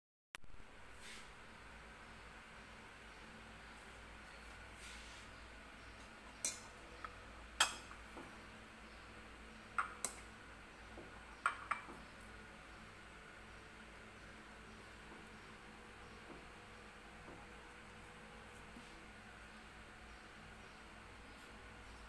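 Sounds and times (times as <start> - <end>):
faint room hum: 0.4 - 22.0.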